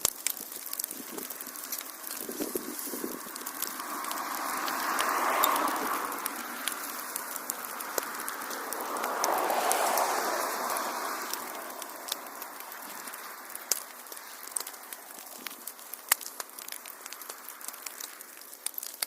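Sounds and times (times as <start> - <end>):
fire pops and snaps: 0.0 - 19.0
rushing hiss of flames: 0.0 - 19.0
wood fire crackling: 0.0 - 19.0.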